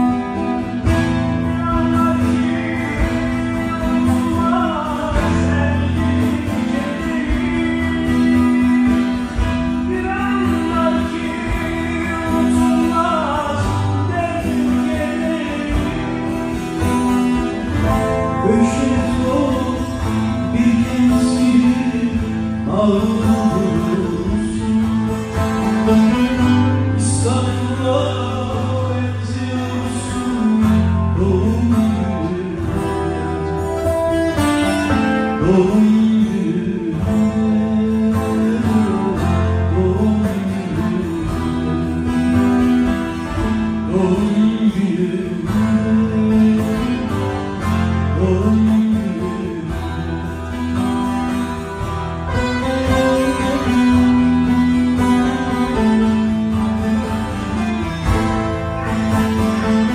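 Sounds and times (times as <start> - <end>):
plucked string folk music: 0.0 - 59.9.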